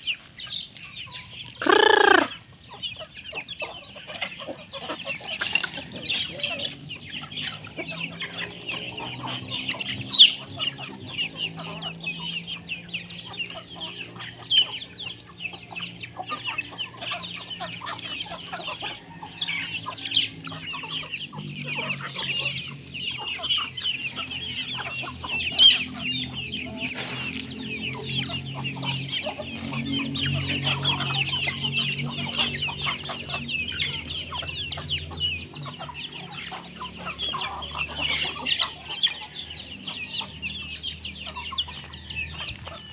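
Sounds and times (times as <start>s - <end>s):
chickens clucking and calling: 0.0s - 42.9s.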